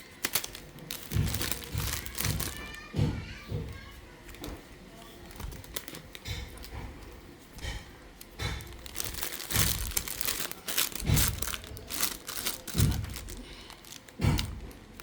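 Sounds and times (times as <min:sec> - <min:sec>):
plastic packaging crinkling: 0:00.0 - 0:03.0, 0:03.7 - 0:15.0.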